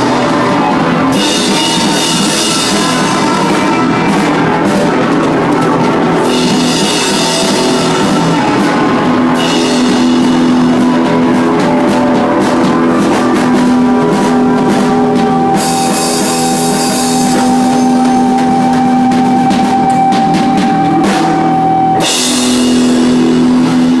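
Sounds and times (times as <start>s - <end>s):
cymbal crashes: 0.0s - 24.0s
drum kit: 0.0s - 24.0s
electric guitars sustained notes: 0.0s - 24.0s.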